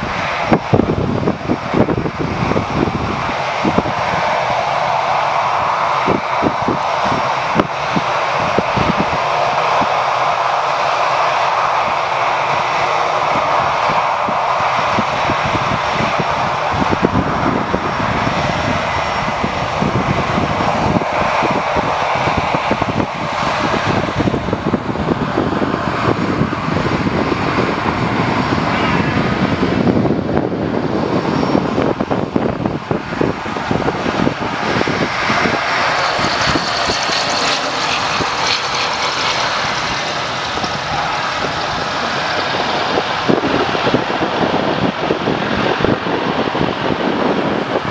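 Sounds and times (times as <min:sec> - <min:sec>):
turboprop aircraft engines: 0:00.0 - 0:47.9.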